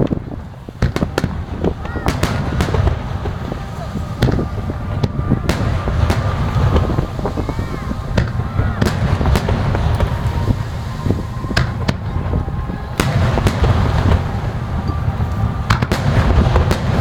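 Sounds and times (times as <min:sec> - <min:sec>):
fireworks bangs: 0:00.0 - 0:17.0
fireworks rumble and crackle: 0:00.0 - 0:17.0.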